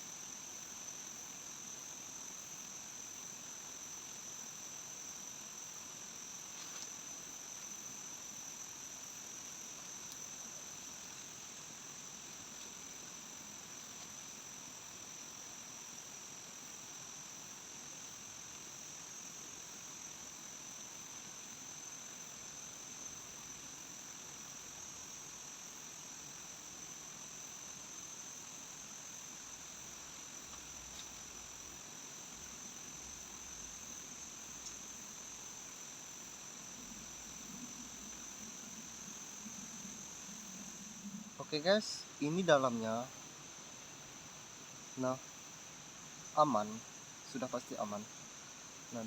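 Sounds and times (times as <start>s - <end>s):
faint even hiss: 0.0s - 49.0s
insects trilling: 0.0s - 49.0s.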